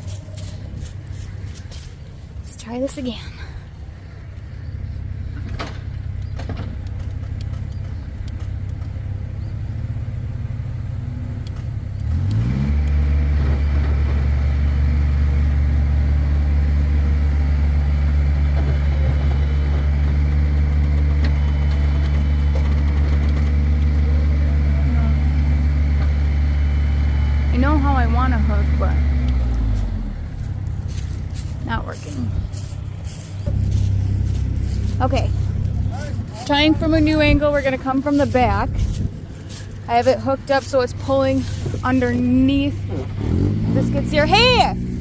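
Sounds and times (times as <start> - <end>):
vehicle engine revving under load: 3.8 - 45.0.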